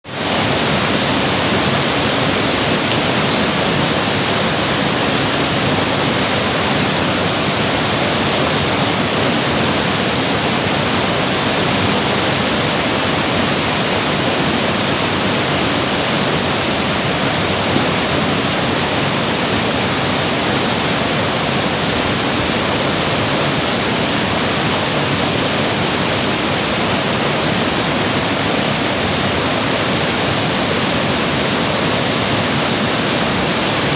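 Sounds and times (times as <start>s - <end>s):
river rushing over rocks: 0.0s - 33.9s.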